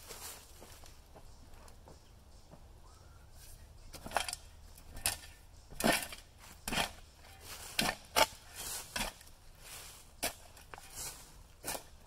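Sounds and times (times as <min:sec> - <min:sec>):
crunching and scraping in dirt: 0:00.0 - 0:02.7, 0:03.4 - 0:12.0.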